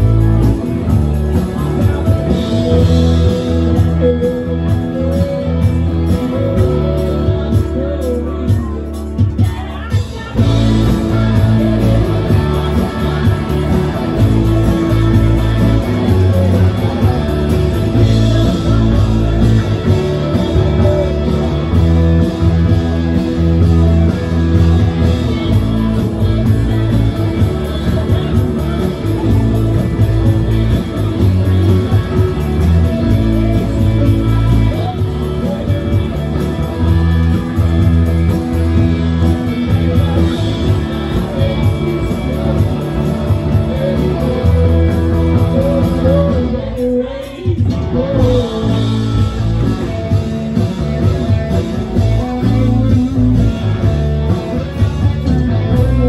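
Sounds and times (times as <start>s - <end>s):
country band playing: 0.0s - 56.0s
person singing: 0.0s - 56.0s.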